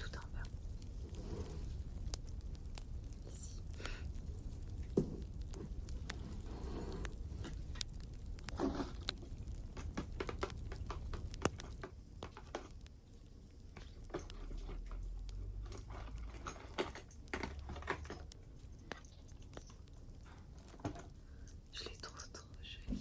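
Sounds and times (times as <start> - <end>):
crackling wood fire: 0.0 - 23.0
ornaments and branches clicking: 0.0 - 23.0.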